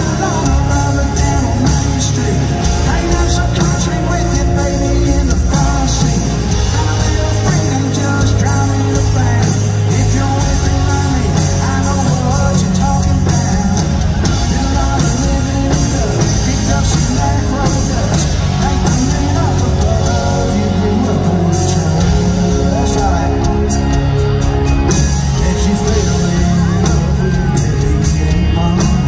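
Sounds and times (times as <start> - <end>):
live country rock band: 0.0 - 29.0.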